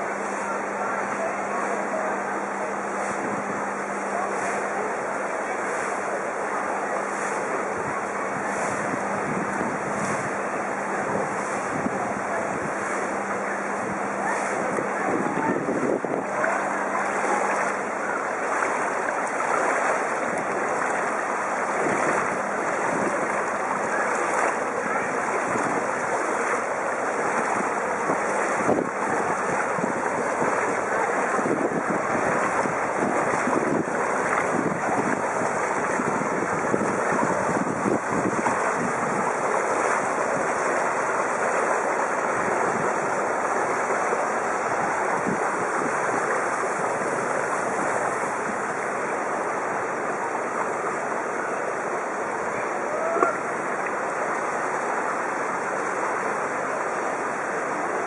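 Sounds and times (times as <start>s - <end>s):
bicycle wheels splashing through water: 0.0s - 51.5s.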